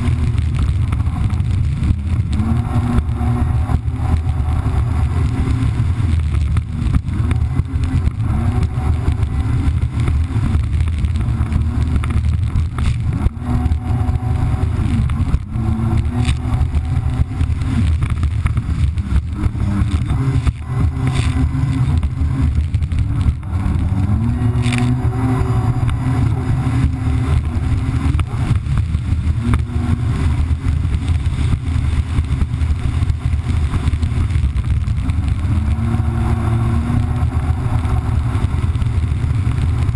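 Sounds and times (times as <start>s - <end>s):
jet ski engine running: 0.0s - 39.9s
water and wind rushing: 0.0s - 39.9s.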